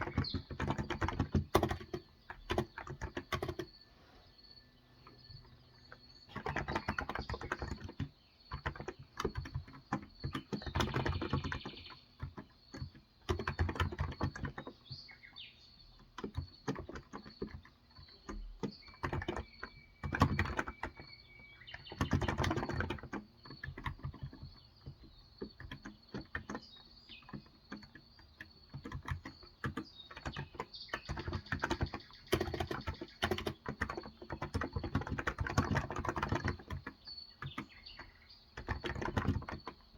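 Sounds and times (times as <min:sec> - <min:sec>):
keyboard typing: 0:00.0 - 0:03.9, 0:05.0 - 0:39.9
birds chirping faintly: 0:00.0 - 0:39.9.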